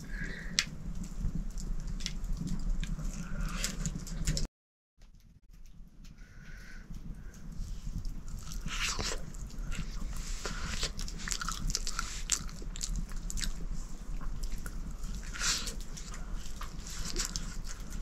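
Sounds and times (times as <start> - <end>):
food being chewed: 0.3 - 4.5, 5.1 - 18.0.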